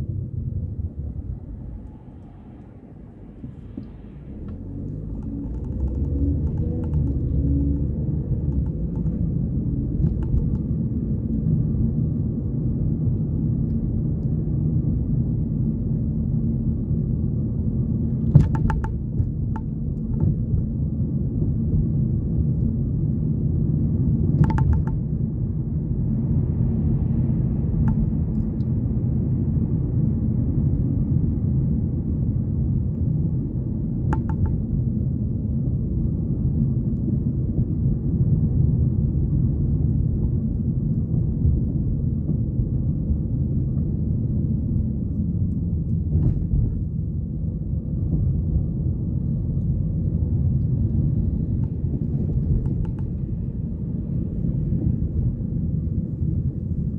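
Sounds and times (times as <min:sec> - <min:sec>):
car road rumble inside cabin: 0:00.0 - 0:56.9.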